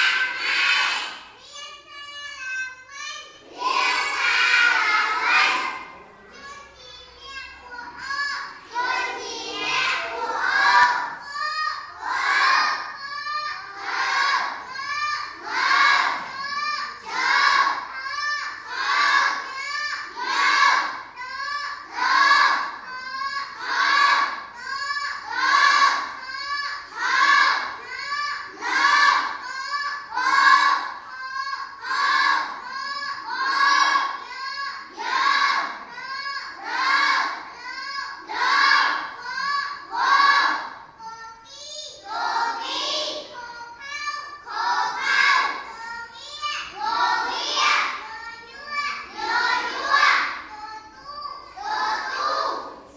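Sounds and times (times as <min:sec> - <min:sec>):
children chanting together: 0:00.0 - 0:52.9.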